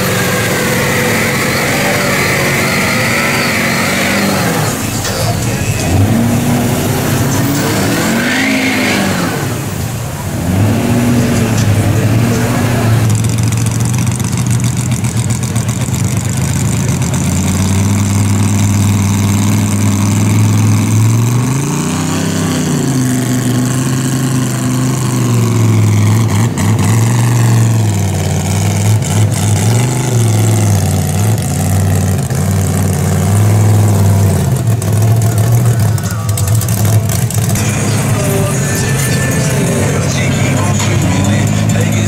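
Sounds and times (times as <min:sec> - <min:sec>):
truck engine revving: 0:00.0 - 0:42.0.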